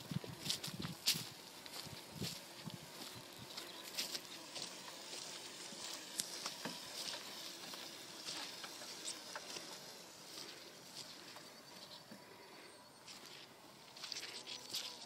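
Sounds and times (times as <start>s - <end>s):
footsteps in dry grass: 0.0s - 15.0s
small crackles: 0.2s - 12.6s, 13.2s - 15.0s.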